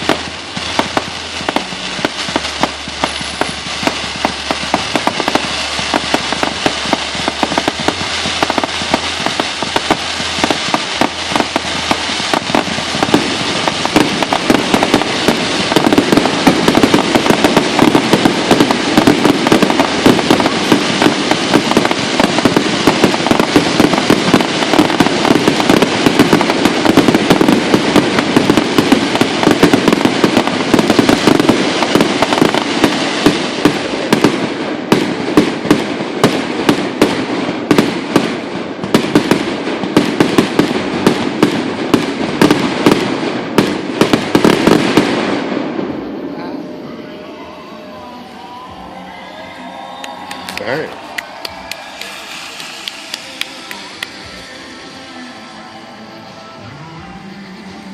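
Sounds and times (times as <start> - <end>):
fireworks bangs and crackles: 0.0 - 55.6.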